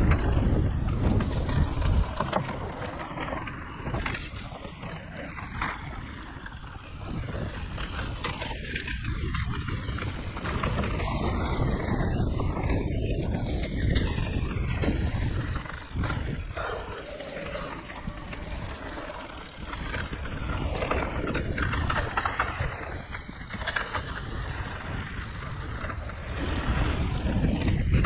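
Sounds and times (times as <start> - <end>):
bike knocking and rattling: 0.0 - 28.0
tyres rumbling over ground: 0.0 - 28.0.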